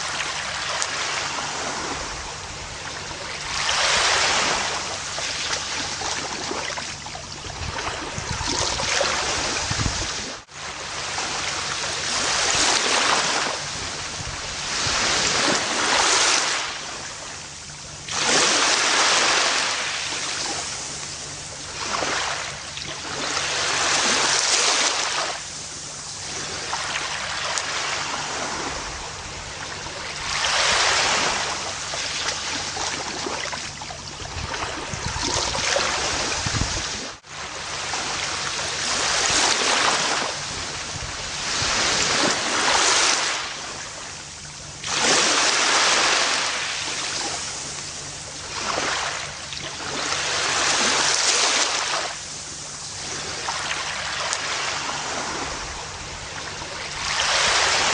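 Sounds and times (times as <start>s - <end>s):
ocean waves washing onto beach: 0.0s - 57.9s.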